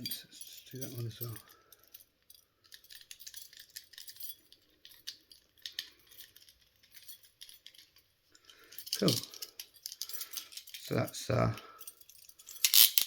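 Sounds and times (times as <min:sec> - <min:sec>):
keys clinking against handcuff: 0:00.0 - 0:13.0.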